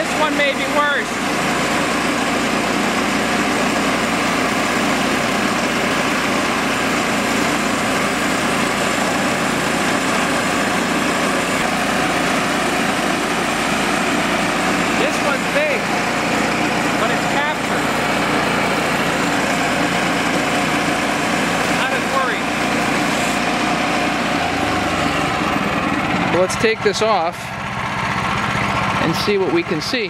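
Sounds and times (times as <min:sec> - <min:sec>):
bandsaw mill engine under load: 0:00.0 - 0:30.0.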